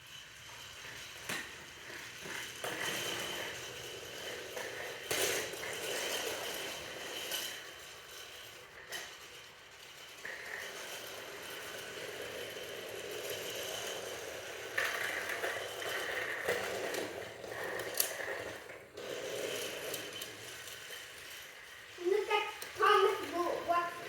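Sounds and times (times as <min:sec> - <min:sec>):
toy train whirring and rattling: 0:00.0 - 0:24.0.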